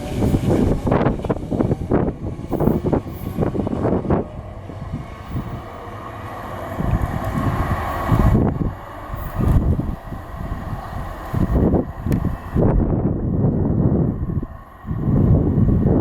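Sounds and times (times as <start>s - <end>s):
train whine: 0.0s - 16.0s
wind buffeting microphone: 0.0s - 16.0s.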